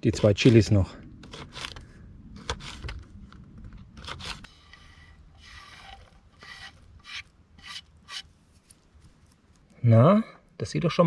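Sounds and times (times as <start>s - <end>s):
scraping and crunching in a pot: 0.0s - 9.6s.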